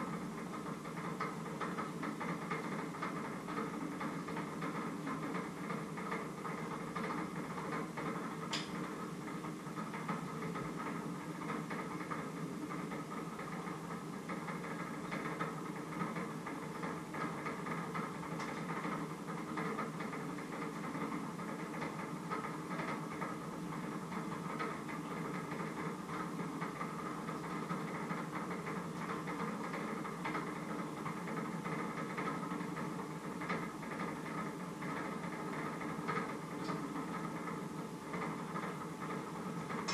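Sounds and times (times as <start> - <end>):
steady mechanical hum: 0.0 - 39.9.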